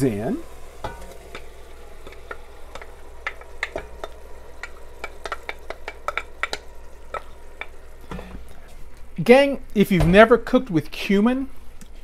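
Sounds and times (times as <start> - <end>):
low sizzle from a pan: 0.0 - 9.9.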